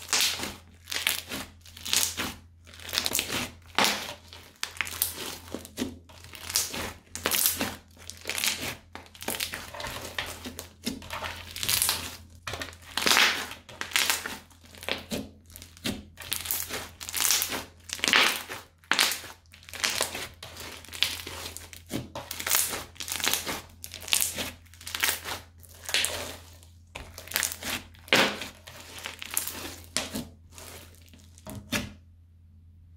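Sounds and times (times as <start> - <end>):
crunchy slime squished by hand: 0.0 - 32.0.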